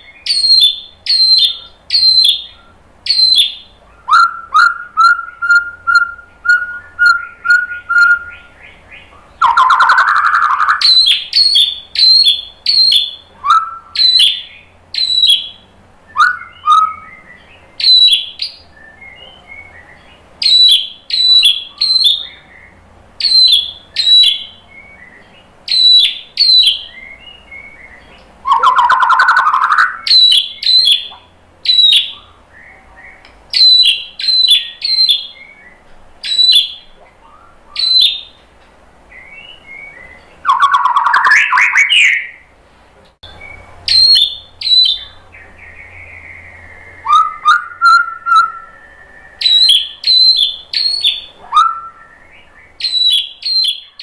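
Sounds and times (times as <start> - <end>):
harsh rasping bird call: 0.0 - 38.4, 39.2 - 42.5, 43.3 - 54.0
songbird whistling song: 0.0 - 42.5, 43.2 - 54.0.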